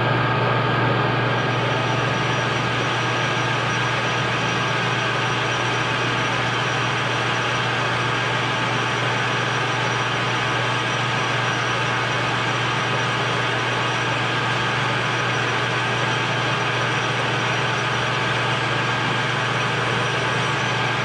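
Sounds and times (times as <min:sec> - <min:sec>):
lathe humming and whining: 0:00.0 - 0:21.0
drill bit cutting metal: 0:01.5 - 0:21.0.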